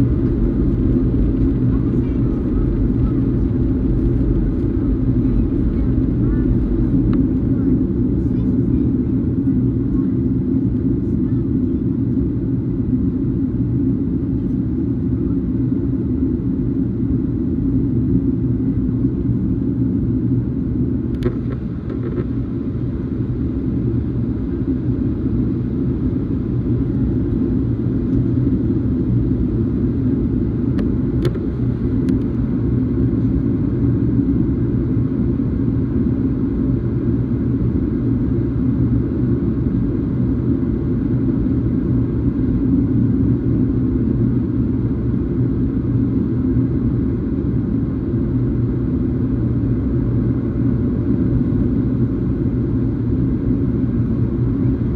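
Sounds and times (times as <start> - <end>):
airliner cabin engine drone: 0.0 - 54.9.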